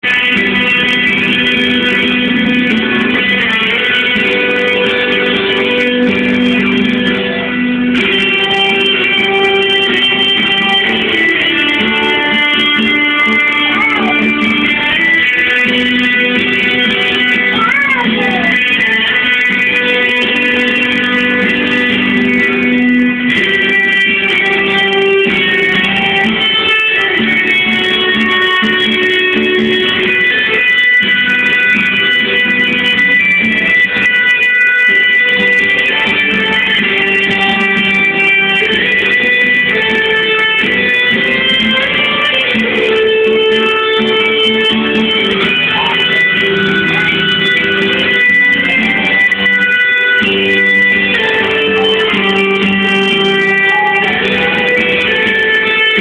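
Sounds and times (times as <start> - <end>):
plucked guitar notes: 0.0 - 56.0.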